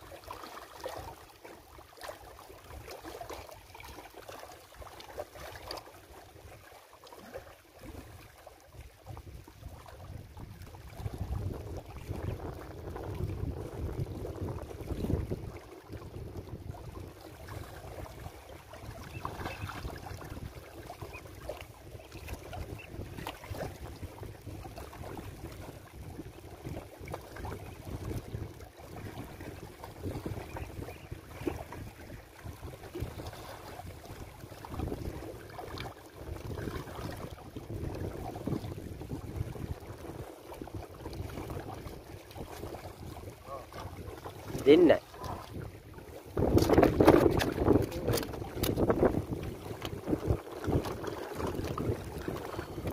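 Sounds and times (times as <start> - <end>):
small waves lapping on rocks: 0.0 - 52.9
wind on microphone: 7.8 - 52.9.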